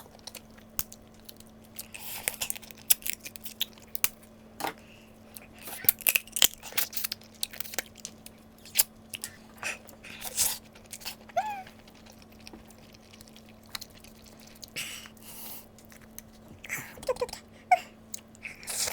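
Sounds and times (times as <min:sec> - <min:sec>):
crunching and chewing seafood: 0:00.0 - 0:18.9.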